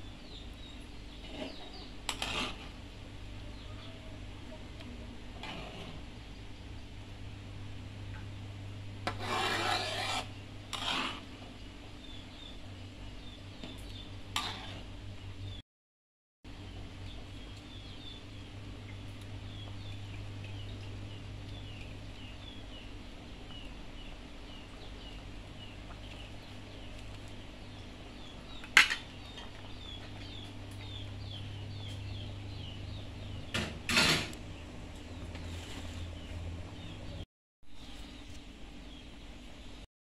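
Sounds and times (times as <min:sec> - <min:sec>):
steady low hum: 0:00.0 - 0:15.6, 0:16.5 - 0:39.9.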